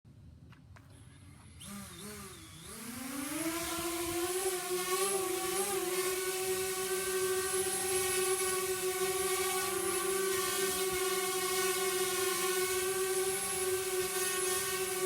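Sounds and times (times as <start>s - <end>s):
drone propellers whirring: 1.0s - 15.0s.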